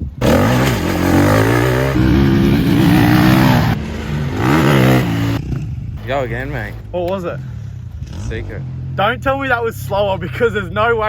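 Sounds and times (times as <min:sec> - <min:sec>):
motocross bike engine revving: 0:00.0 - 0:10.6.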